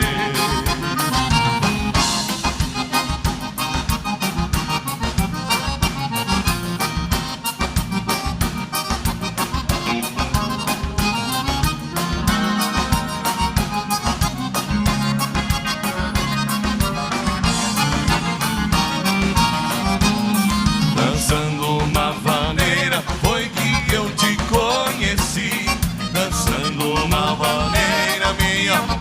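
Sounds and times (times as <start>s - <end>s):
accordion melody: 0.0s - 29.0s
quick steady drum beat: 0.0s - 29.0s.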